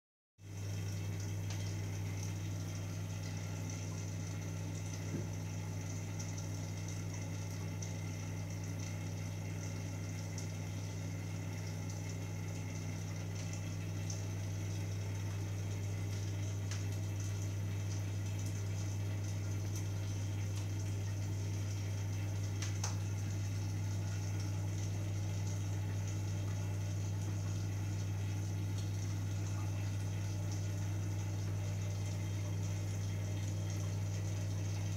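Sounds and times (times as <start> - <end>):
aquarium pump humming: 0.4 - 34.9.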